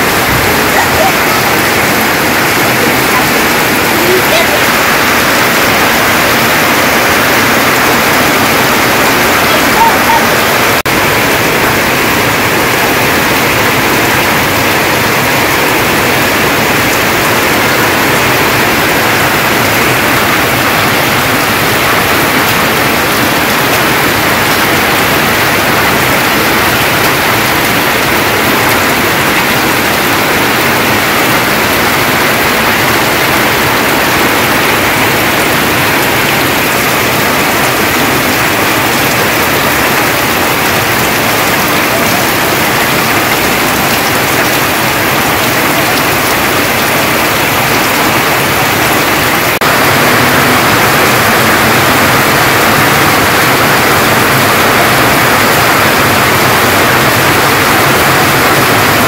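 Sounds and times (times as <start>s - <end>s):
heavy rain on leaves: 0.0s - 59.0s.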